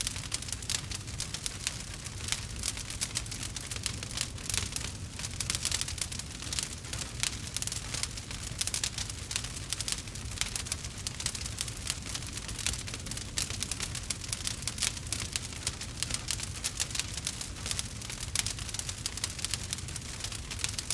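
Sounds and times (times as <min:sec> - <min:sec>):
low rumble of flames: 0:00.0 - 0:20.9
wood fire crackling: 0:00.0 - 0:20.9.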